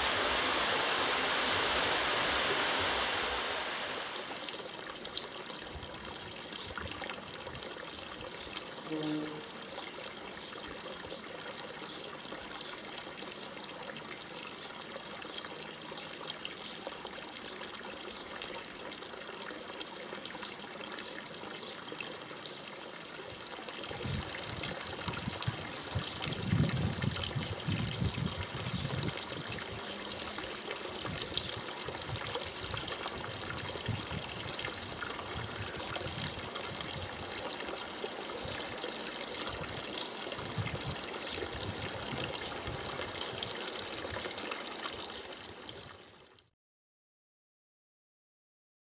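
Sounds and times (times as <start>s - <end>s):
water pouring into a stone trough: 0.0s - 8.9s, 9.6s - 46.4s.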